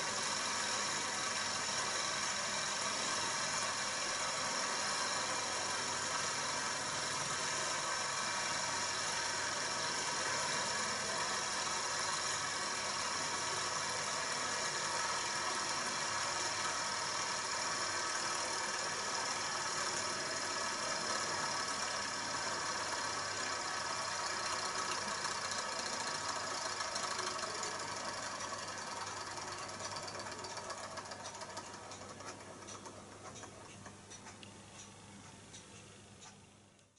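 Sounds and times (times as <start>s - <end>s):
small engine running: 0.0s - 33.5s.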